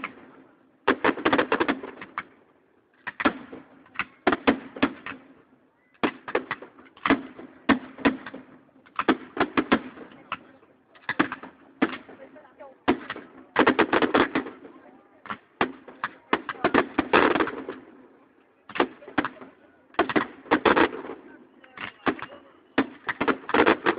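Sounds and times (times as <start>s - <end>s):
fireworks cracking: 0.0s - 23.9s.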